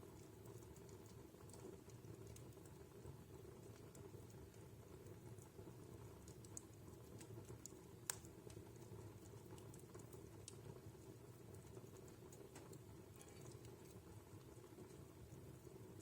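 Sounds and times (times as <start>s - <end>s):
burning logs crackling: 0.0s - 16.0s.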